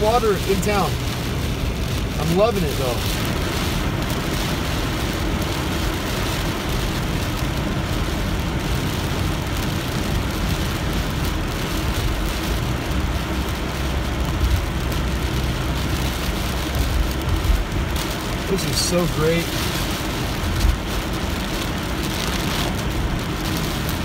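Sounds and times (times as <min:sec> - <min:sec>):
car engine: 0:00.0 - 0:24.0
rain on car: 0:00.0 - 0:24.0
tyre and road noise: 0:00.0 - 0:24.0.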